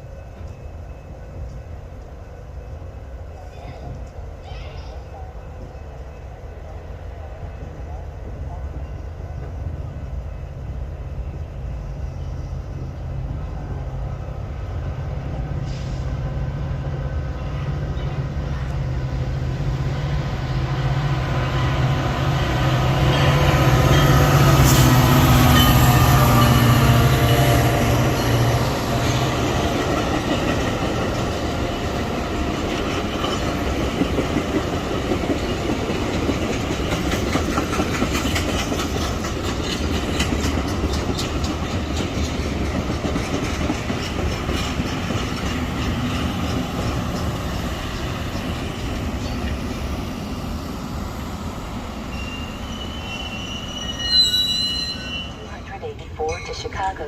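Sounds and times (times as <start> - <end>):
rail cars rumbling past: 0.0 - 57.0
train diesel drone: 0.0 - 57.0.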